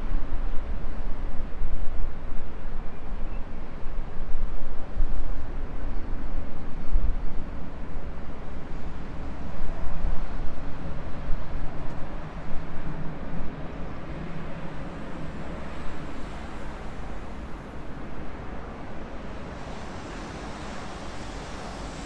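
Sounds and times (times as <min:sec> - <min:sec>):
passing train rumble: 0:03.6 - 0:22.0.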